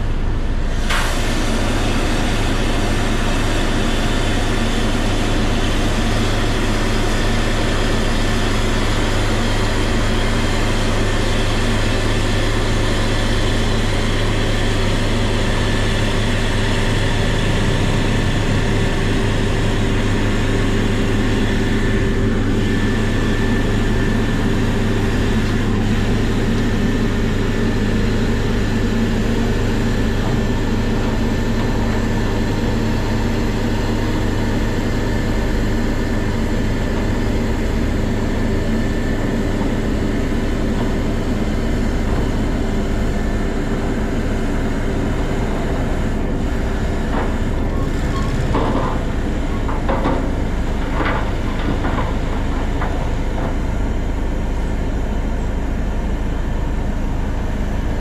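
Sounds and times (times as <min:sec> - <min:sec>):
heavy diesel machinery drone: 0:00.0 - 0:58.0.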